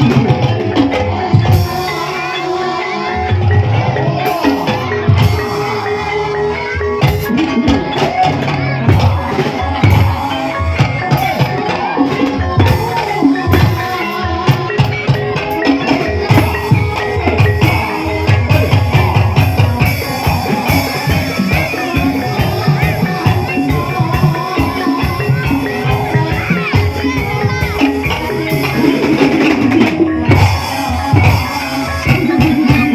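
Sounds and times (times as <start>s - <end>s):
gamelan music: 0.0s - 32.9s.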